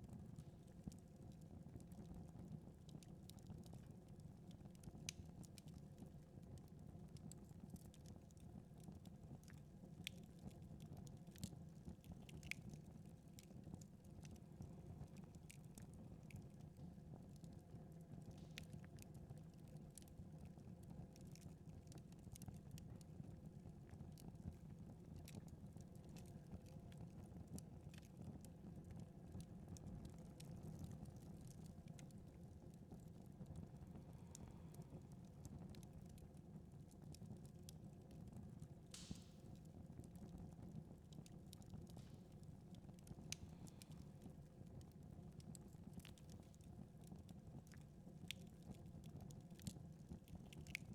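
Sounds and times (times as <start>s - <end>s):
faint wood fire crackling: 0.0s - 50.9s.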